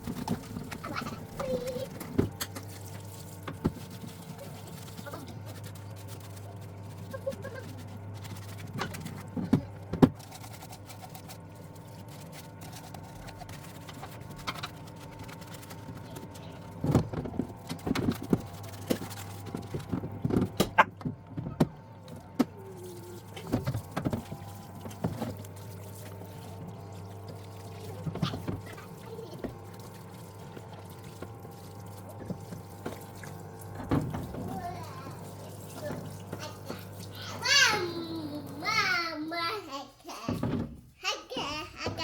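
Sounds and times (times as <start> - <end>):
parts washer pump hum: 0.0 - 42.0.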